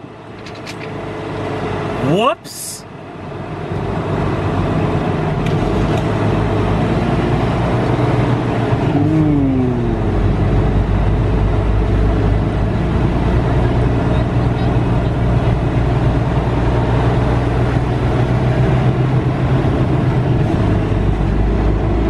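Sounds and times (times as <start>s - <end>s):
truck diesel engine drone: 0.0s - 22.0s.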